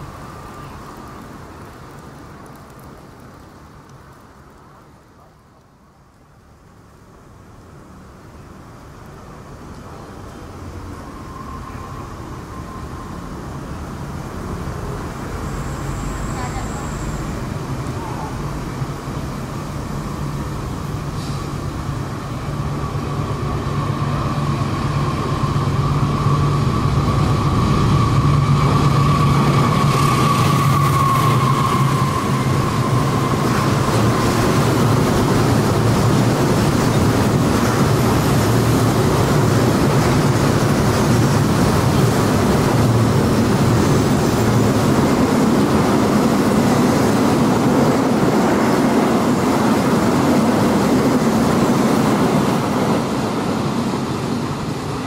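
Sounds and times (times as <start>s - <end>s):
wheels rumbling on rails: 0.0s - 55.0s.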